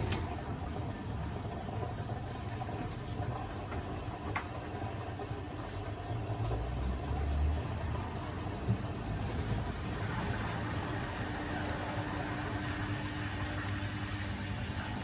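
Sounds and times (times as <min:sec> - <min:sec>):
washing machine motor and drum: 0:00.0 - 0:15.0.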